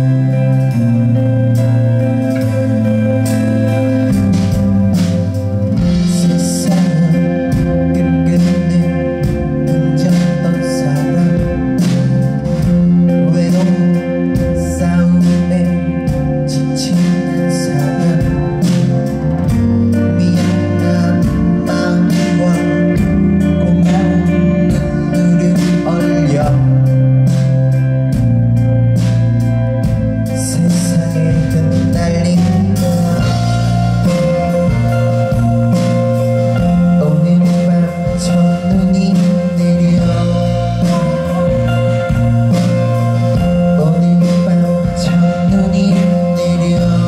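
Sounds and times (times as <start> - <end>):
man singing: 0.0 - 27.8, 30.2 - 47.0
bass guitar: 0.0 - 47.0
drum kit beat: 0.0 - 47.0
electric guitar: 0.0 - 47.0.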